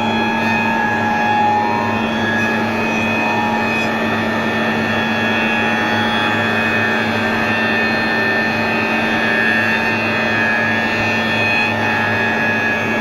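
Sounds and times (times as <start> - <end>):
planer moulder machine humming: 0.0 - 13.0.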